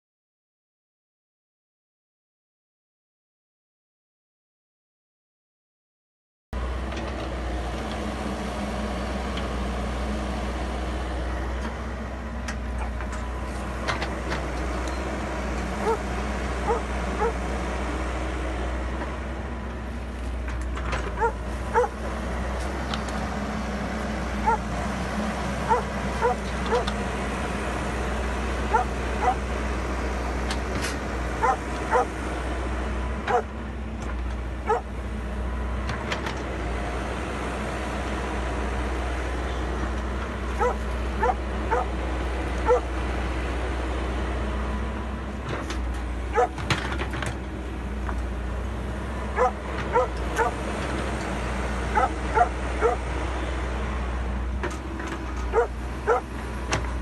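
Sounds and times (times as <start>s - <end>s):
excavator diesel engine running: 6.6s - 57.0s.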